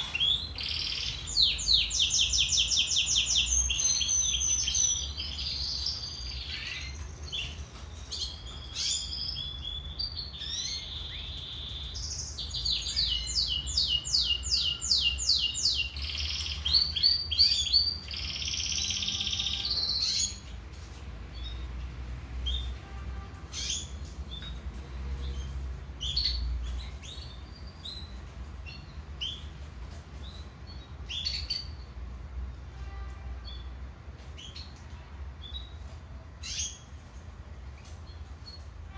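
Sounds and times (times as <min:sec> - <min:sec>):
canary singing trills: 0:00.0 - 0:32.1, 0:32.8 - 0:37.0.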